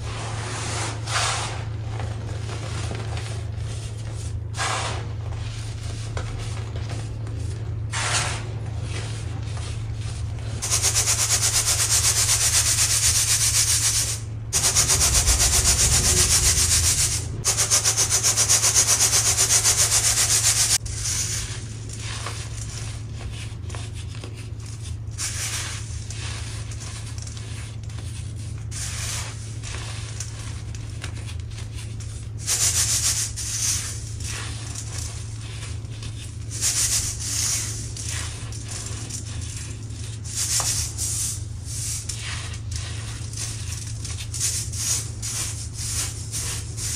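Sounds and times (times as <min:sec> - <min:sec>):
hands crushing baking soda: 0:00.1 - 0:46.9.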